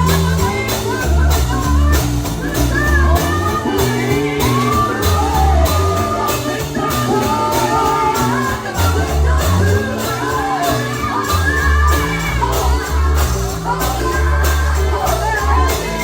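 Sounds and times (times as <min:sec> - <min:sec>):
band with bass and drums: 0:00.0 - 0:16.0
gospel singing: 0:00.0 - 0:16.0.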